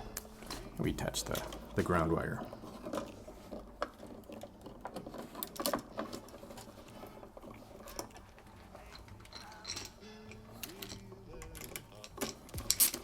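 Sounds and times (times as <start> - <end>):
small clicks and scrapes: 2.4 - 13.0.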